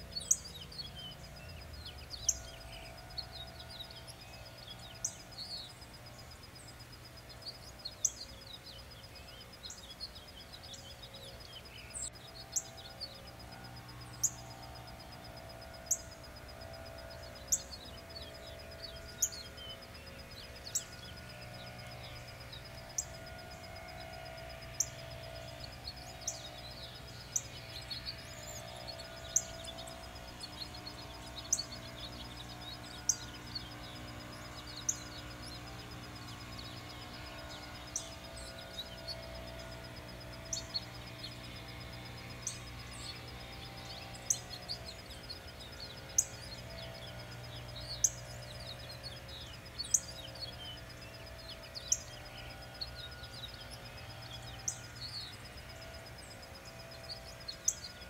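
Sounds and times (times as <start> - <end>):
bird chirping: 0.0 - 58.0
birds twittering: 0.0 - 58.0
low hum: 0.0 - 58.0.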